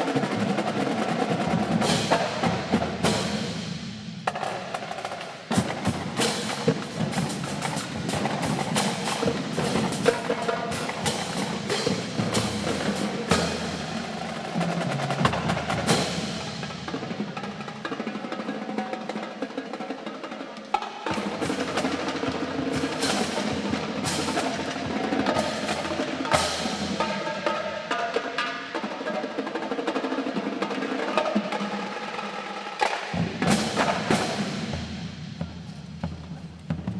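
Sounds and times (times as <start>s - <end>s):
marching drum line playing: 0.0s - 36.9s.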